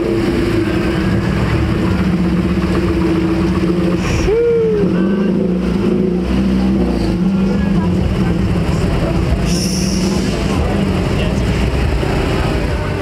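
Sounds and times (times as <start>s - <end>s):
car engine at low revs: 0.0s - 13.0s.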